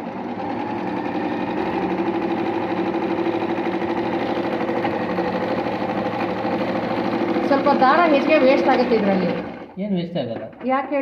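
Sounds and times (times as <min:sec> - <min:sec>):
electric sewing machine running: 0:00.0 - 0:11.0.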